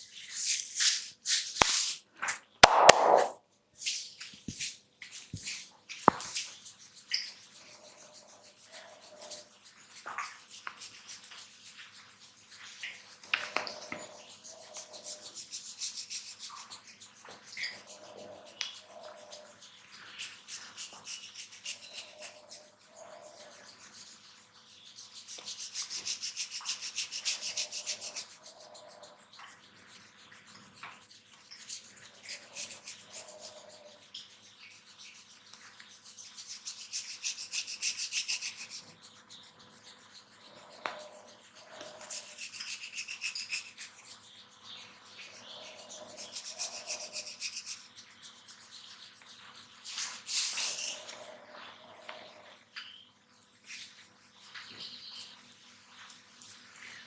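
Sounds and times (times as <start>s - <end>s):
hands rubbing and scratching: 0.0s - 52.6s, 53.4s - 57.0s.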